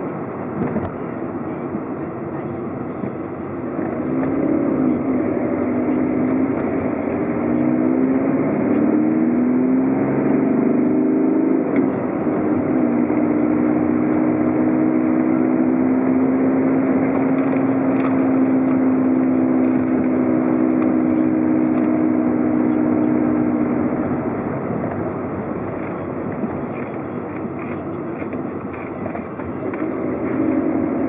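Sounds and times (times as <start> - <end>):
car engine hum: 0.0 - 31.0
road and tyre noise: 0.0 - 31.0.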